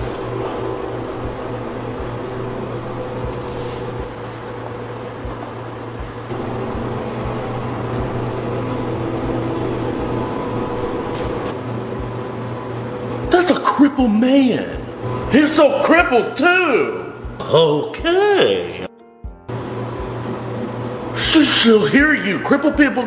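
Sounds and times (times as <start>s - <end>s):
low mechanical hum: 0.0s - 17.8s, 19.3s - 23.0s.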